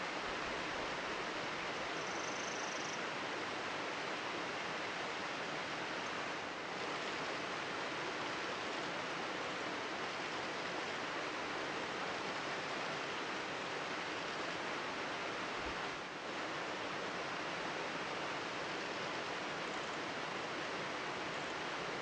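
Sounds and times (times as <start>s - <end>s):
rushing mountain stream: 0.0s - 22.0s.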